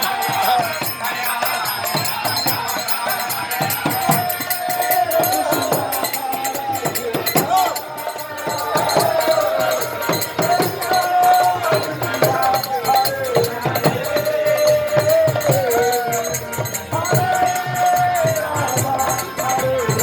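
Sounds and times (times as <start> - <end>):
drum beat: 0.0 - 20.0
jingling hand percussion: 0.0 - 20.0
voices singing a chant: 0.0 - 20.0.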